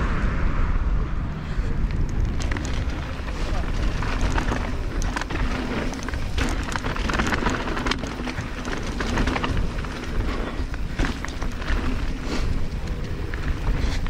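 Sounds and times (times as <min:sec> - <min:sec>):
wind rumble on microphone: 0:00.0 - 0:14.0
bike rattles and clicks: 0:01.4 - 0:14.0
tyres crunching over dirt: 0:01.8 - 0:14.0.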